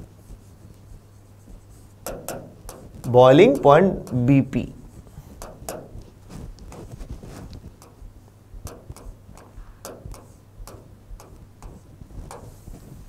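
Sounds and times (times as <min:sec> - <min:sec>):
chalk tapping and scratching: 0:00.0 - 0:13.0
faint low hum: 0:00.0 - 0:13.0.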